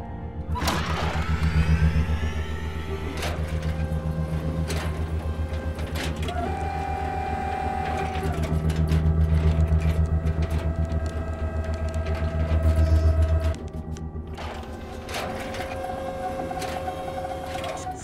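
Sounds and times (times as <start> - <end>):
low humming drone: 0.0 - 18.0
whirring whine: 0.0 - 18.0.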